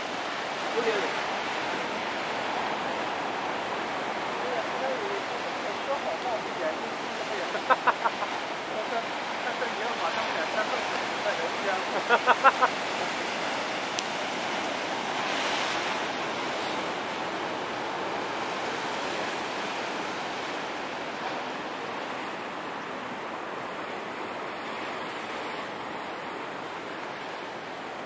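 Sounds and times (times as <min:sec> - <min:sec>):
ocean surf washing in: 0:00.0 - 0:28.0.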